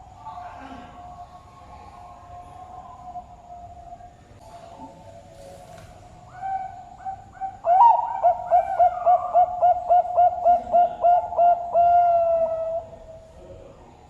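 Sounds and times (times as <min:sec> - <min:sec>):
dove cooing: 0:00.0 - 0:13.3.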